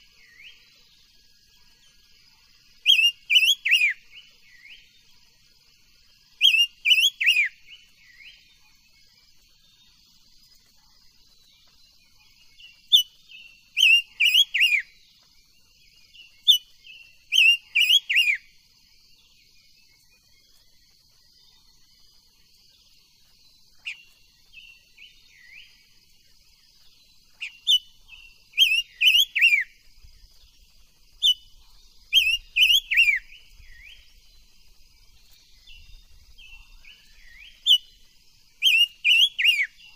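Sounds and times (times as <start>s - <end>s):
bird whistled song: 0.0s - 5.1s, 6.1s - 10.2s, 11.3s - 20.7s, 23.2s - 26.0s, 26.8s - 39.9s.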